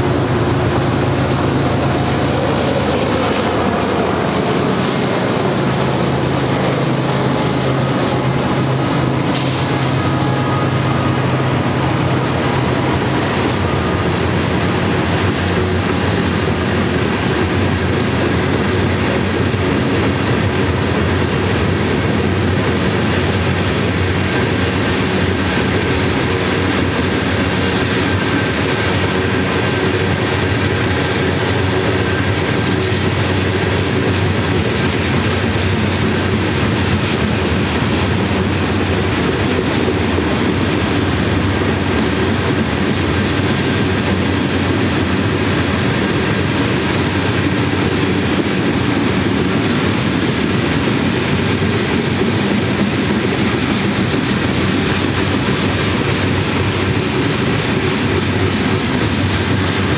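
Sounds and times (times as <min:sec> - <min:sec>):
steel wheels on rails clacking: 0:00.0 - 0:59.9.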